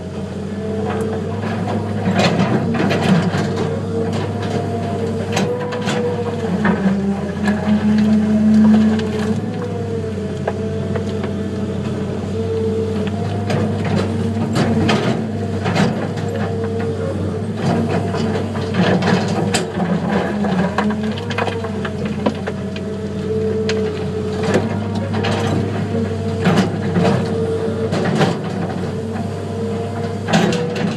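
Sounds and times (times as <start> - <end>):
heavy diesel machines running: 0.0 - 30.9.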